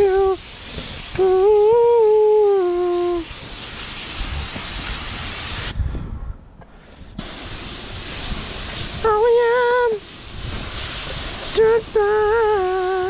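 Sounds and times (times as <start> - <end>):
paint spray gun hissing: 0.0 - 5.8, 7.2 - 13.0.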